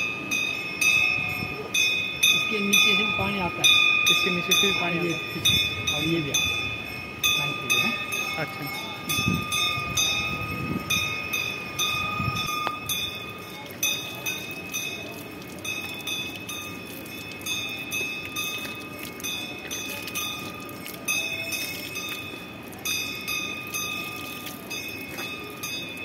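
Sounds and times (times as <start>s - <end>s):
temple bell ringing: 0.0s - 26.0s.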